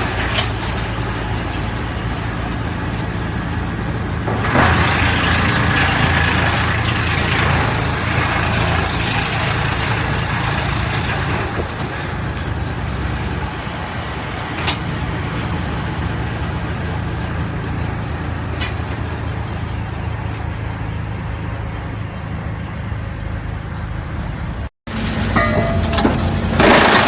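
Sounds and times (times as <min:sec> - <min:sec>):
wood chipper engine hum: 0:00.0 - 0:27.0.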